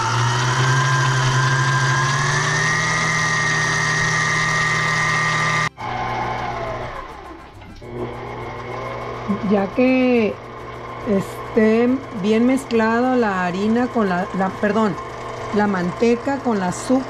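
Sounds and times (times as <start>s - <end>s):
stand mixer motor whine: 0.0s - 17.0s.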